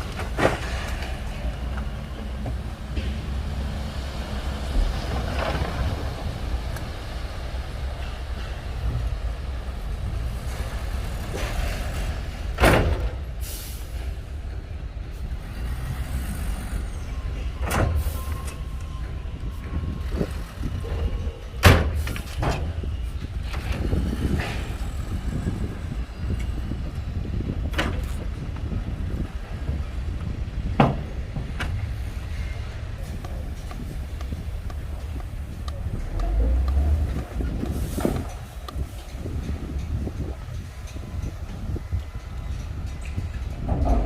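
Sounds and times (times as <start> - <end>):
diesel earthmoving machinery rumbling: 0.0 - 44.0.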